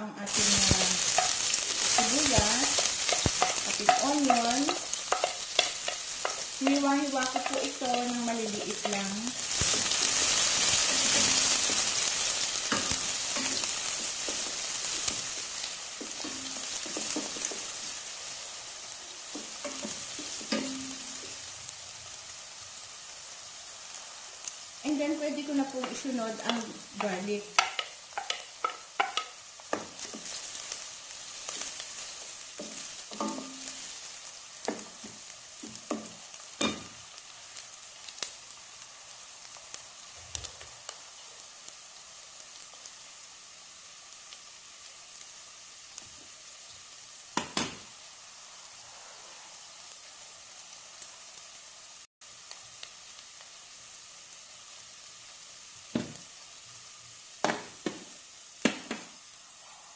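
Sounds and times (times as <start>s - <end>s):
onion sizzling in hot oil: 0.0s - 59.9s.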